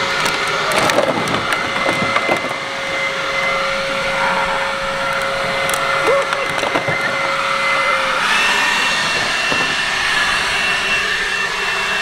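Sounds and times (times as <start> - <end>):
leaf blower running: 0.0 - 12.0.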